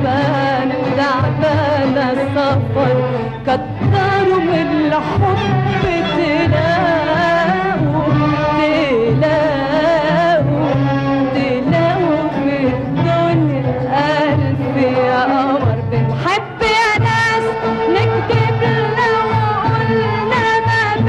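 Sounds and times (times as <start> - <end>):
instrumental ensemble: 0.0 - 21.0
low rhythm: 0.0 - 21.0
woman singing melismatically: 0.0 - 21.0.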